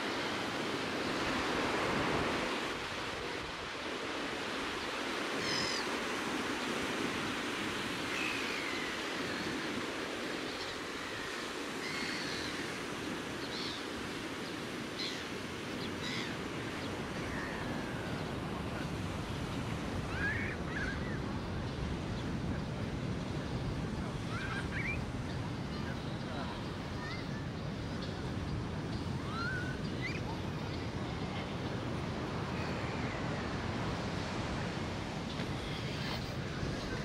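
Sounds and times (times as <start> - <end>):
surf washing on beach: 0.0 - 37.0.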